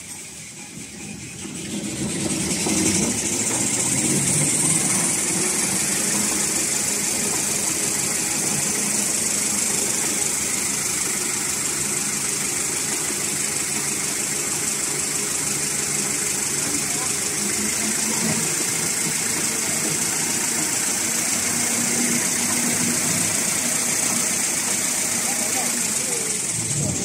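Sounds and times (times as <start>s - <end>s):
machine running with hum and hiss: 0.0s - 27.0s.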